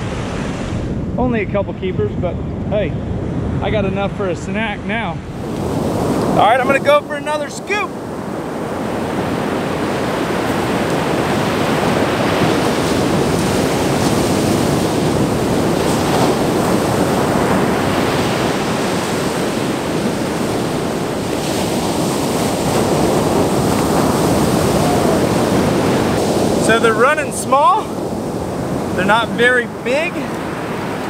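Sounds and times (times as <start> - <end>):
waves breaking on beach: 0.0 - 1.1, 4.6 - 31.0.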